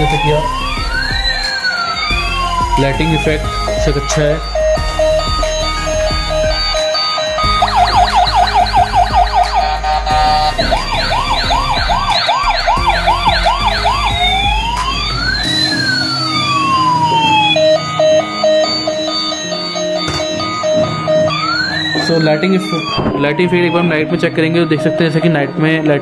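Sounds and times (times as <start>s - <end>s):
toy beeping tune: 0.0s - 26.0s
toy electronic siren: 0.0s - 26.0s.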